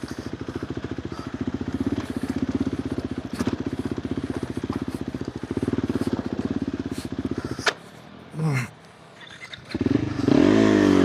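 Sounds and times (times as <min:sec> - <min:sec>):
motorcycle engine chugging: 0:00.0 - 0:07.9, 0:09.2 - 0:11.0.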